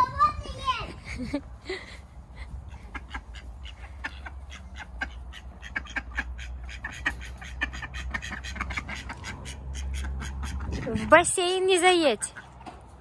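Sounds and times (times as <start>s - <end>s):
ducks quacking: 2.4s - 13.0s.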